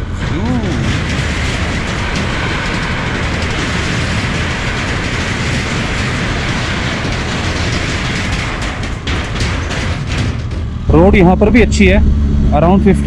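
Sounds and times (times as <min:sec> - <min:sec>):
motorcycle engine: 0:00.0 - 0:13.0
tyres rattling over bridge deck: 0:00.0 - 0:13.0.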